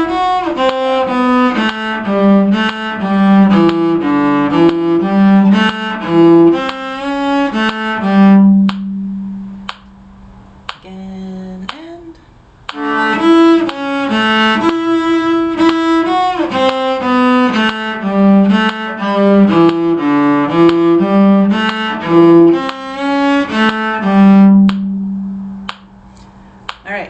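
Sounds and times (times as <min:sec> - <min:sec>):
fiddle playing: 0:00.0 - 0:09.6, 0:12.7 - 0:25.4.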